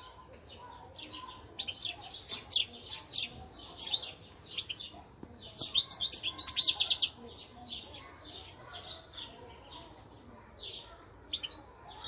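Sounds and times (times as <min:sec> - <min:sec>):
finches chirping and twittering: 0:00.0 - 0:12.0.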